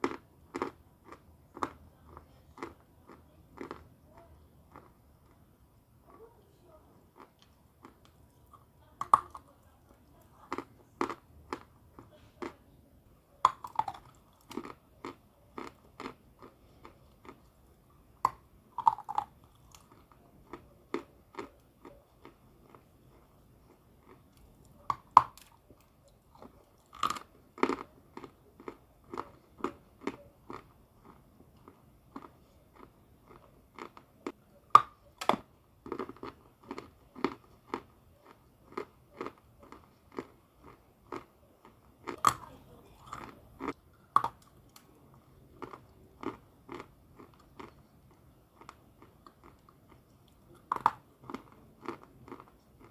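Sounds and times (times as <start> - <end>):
chewing crunches: 0.0 - 5.5, 7.0 - 12.7, 13.4 - 52.9.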